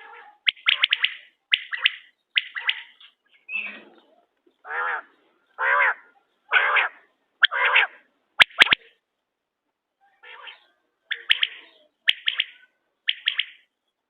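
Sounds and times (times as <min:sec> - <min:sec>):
quail drawn-out calls: 0:00.0 - 0:08.9, 0:10.2 - 0:13.6
quail chirps: 0:00.0 - 0:09.0, 0:10.2 - 0:13.7.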